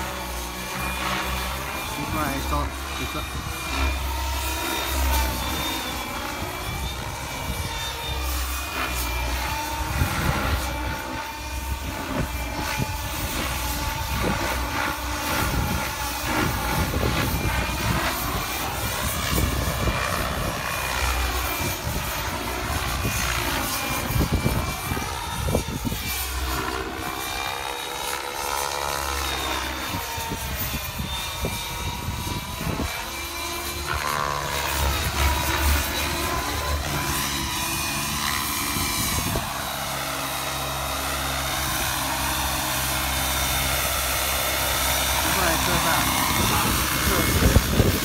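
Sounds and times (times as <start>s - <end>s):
helicopter rotor noise: 0.0s - 48.0s
helicopter whoosh: 0.0s - 48.0s
high turbine whine: 0.0s - 48.0s.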